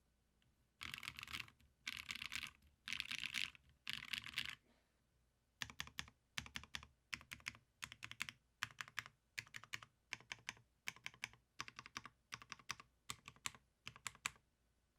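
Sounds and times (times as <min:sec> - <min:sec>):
mechanical keyboard typing: 0:00.8 - 0:04.6, 0:05.6 - 0:14.4.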